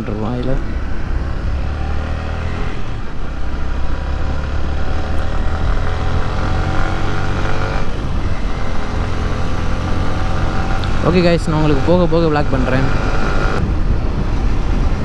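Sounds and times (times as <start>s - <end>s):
wind rumble on microphone: 2.3s - 15.0s.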